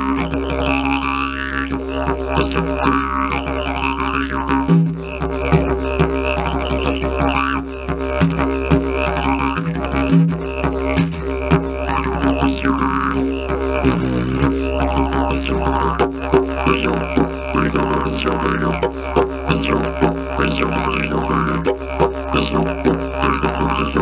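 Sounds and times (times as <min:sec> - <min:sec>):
didgeridoo drone: 0:00.0 - 0:24.0.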